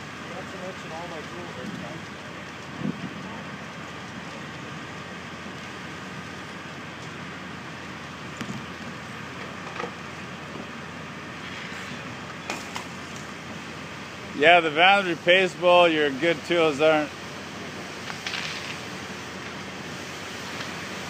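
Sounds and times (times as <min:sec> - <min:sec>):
vehicle fire burning: 0:00.0 - 0:21.0.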